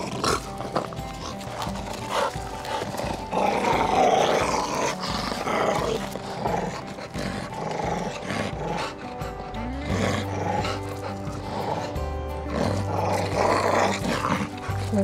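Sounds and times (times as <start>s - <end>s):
background music: 0.0s - 15.0s
dogs growling: 0.0s - 15.0s.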